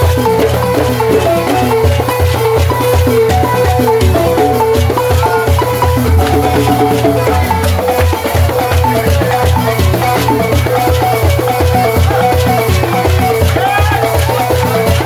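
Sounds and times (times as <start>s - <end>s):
balafon melody: 0.0s - 15.0s.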